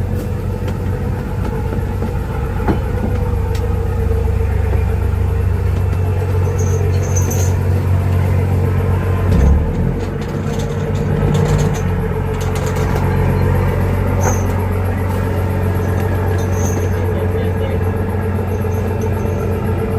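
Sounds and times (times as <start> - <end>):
diesel engine droning: 0.0 - 19.9
steady hum: 0.0 - 19.9.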